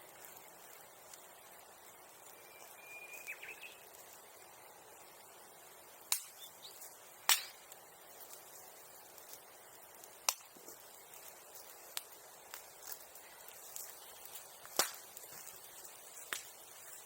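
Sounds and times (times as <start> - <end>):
bonfire crackling: 0.0 - 17.0
sharp pops from burning wood: 0.0 - 17.0.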